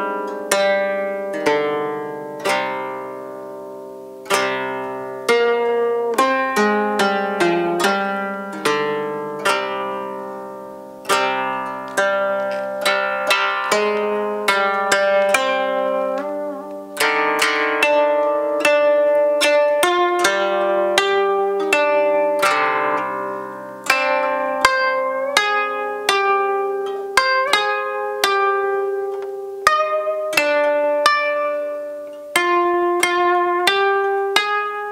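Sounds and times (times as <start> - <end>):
koto plucked notes: 0.0 - 34.9.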